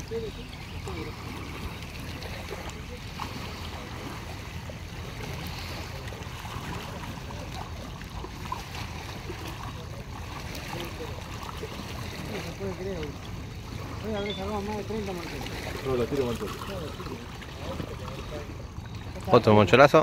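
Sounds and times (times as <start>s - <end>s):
rushing water: 0.0s - 20.0s
wind: 0.0s - 20.0s.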